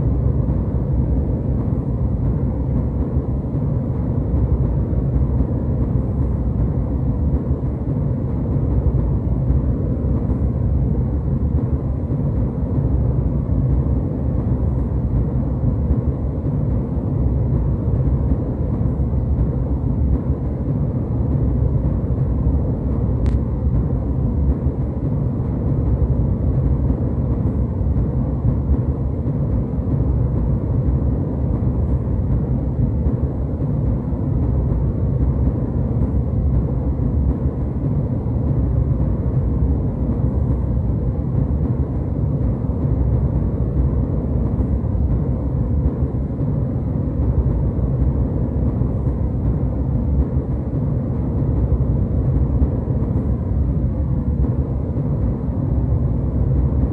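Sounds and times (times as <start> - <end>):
jet airliner cabin noise: 0.0 - 56.9.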